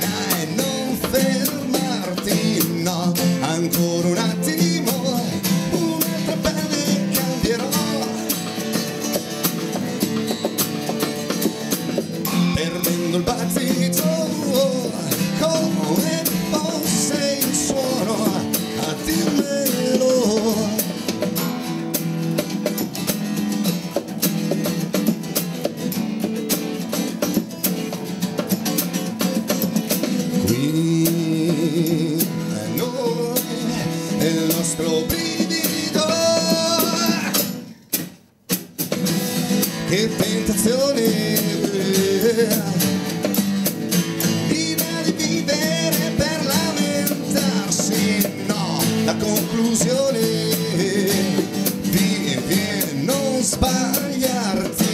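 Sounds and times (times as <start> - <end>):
acoustic bass guitar: 0.0 - 54.9
acoustic guitars strumming: 0.0 - 54.9
drum kit: 0.0 - 54.9.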